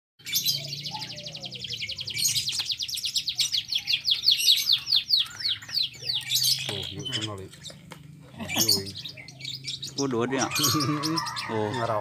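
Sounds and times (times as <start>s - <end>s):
bird trilling chirps: 0.2s - 12.0s.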